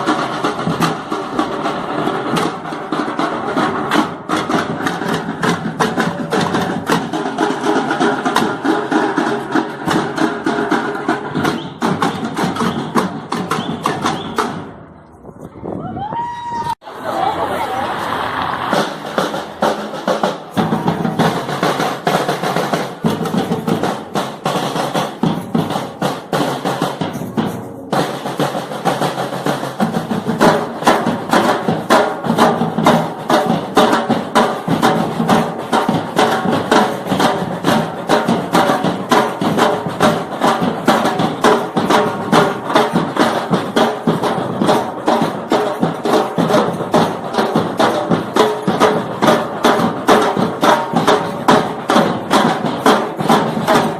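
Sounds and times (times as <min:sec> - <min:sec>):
drums playing fast beat: 0:00.0 - 0:14.8, 0:16.8 - 0:53.9.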